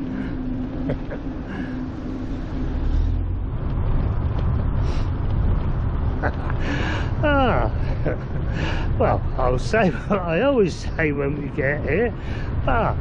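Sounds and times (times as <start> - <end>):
road traffic: 0.0 - 13.0
vehicle low rumble: 0.0 - 13.0.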